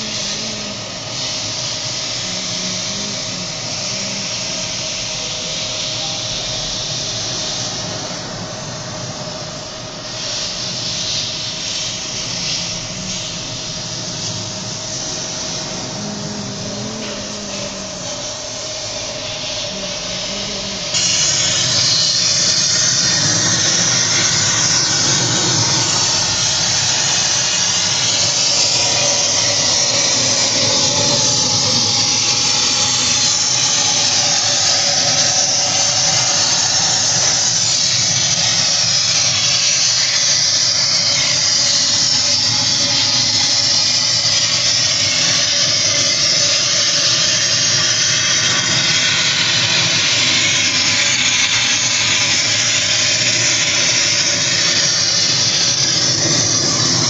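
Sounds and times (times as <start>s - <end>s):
air hose rushing hiss: 0.0s - 57.0s.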